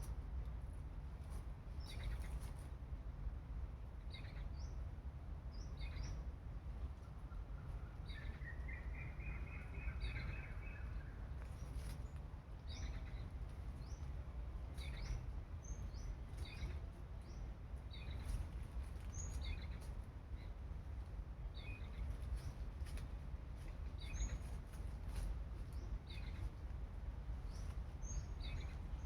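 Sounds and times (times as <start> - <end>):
steady low rumble: 0.0 - 29.0
small birds chirping: 1.7 - 2.7, 4.1 - 4.8, 5.5 - 6.3, 7.0 - 20.6, 21.4 - 29.0.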